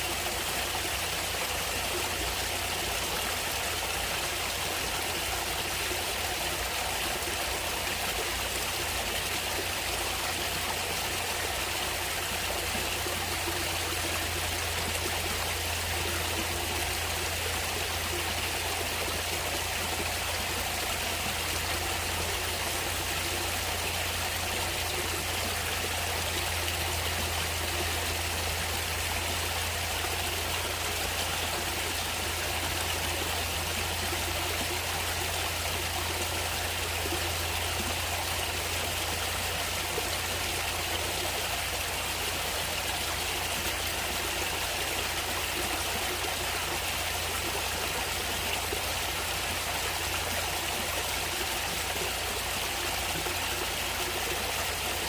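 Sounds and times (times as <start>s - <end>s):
stream of running water: 0.0s - 55.0s.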